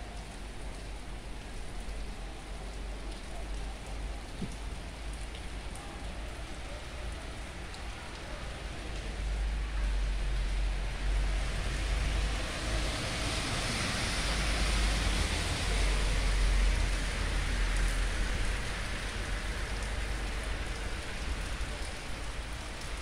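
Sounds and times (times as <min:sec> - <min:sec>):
heavy rain pattering: 0:00.0 - 0:23.0.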